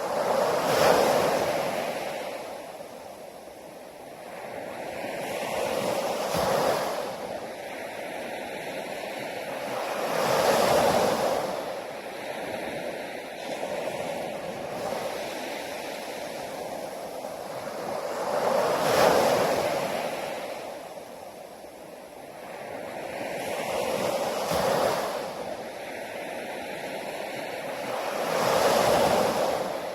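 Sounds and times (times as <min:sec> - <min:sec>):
steady surf wash: 0:00.0 - 0:29.9
waves breaking on shore: 0:00.0 - 0:29.9.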